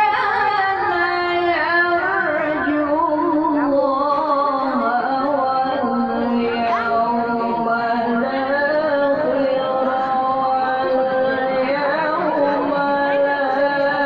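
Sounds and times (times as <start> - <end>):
person reciting melodically: 0.0 - 14.0.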